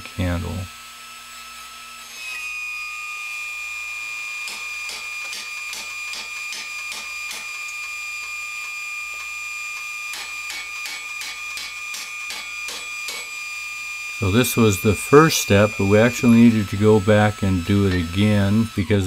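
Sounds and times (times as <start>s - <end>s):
forging press whine: 0.8s - 19.0s.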